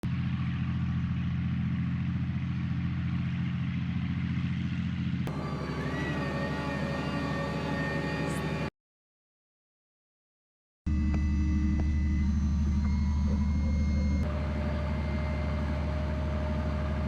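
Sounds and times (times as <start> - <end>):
engine with high whine: 0.0 - 8.7, 10.9 - 17.0
heavy vehicle engine running: 0.0 - 8.7, 10.9 - 17.0.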